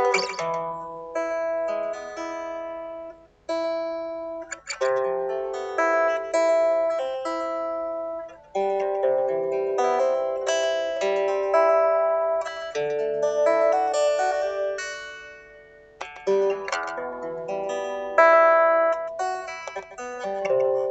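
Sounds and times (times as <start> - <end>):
solo guitar picking notes and chords: 0.0 - 20.9.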